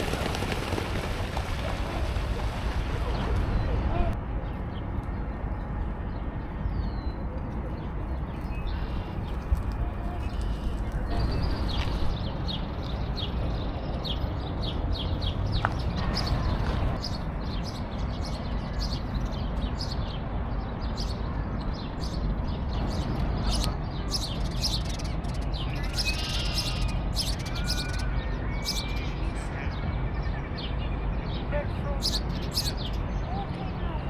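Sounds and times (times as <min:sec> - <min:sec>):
small birds chirping: 0:03.1 - 0:34.0.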